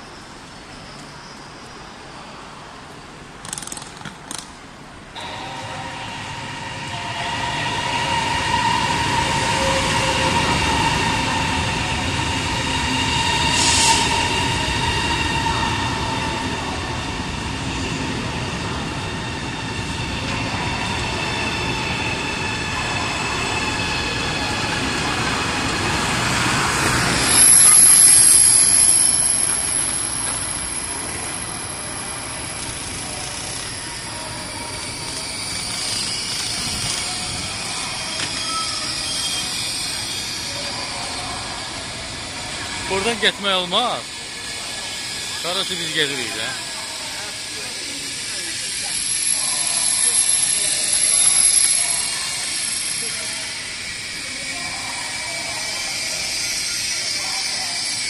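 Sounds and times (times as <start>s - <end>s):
electric train whine: 5.1s - 58.0s.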